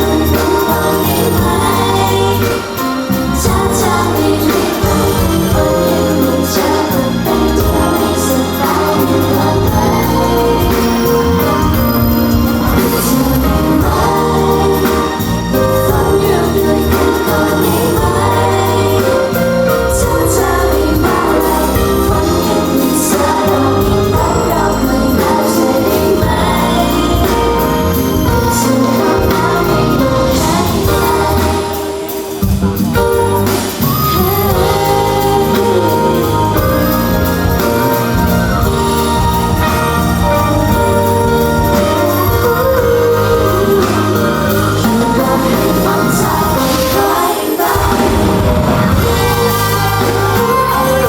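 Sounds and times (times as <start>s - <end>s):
pop song with sung vocals: 0.0s - 51.0s.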